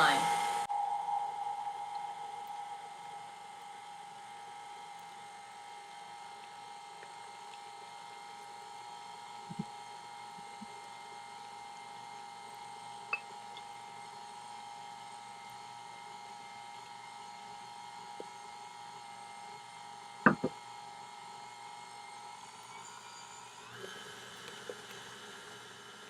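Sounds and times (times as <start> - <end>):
stand mixer motor whining: 2.2 - 26.0.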